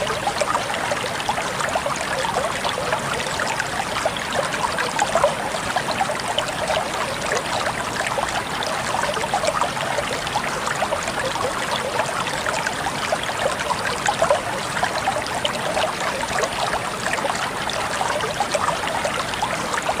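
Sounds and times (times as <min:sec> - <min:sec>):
water trickling over stones: 0:00.0 - 0:20.0.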